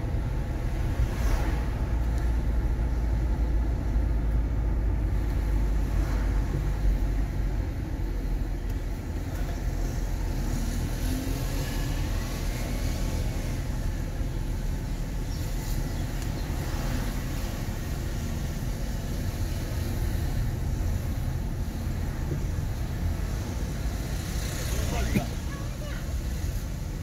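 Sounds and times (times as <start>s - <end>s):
car engine and tyre noise: 0.0s - 27.0s.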